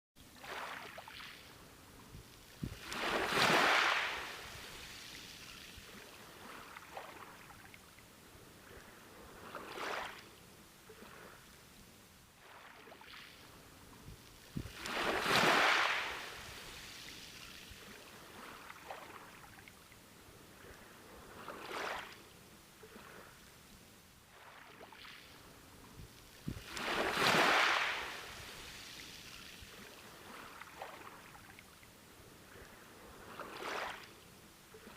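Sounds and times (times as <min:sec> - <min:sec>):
ocean waves breaking on beach: 0:00.2 - 0:11.5, 0:12.4 - 0:19.6, 0:20.2 - 0:23.5, 0:24.3 - 0:34.9.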